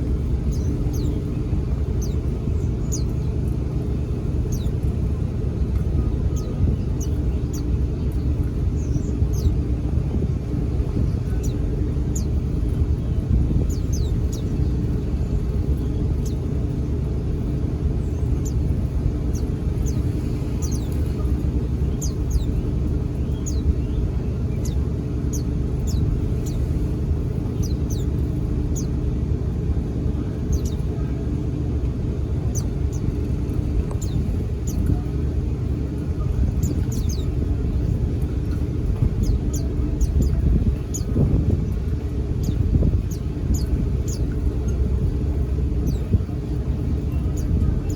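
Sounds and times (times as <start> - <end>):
birds chirping: 0.0 - 47.9
low rumble: 0.0 - 47.9.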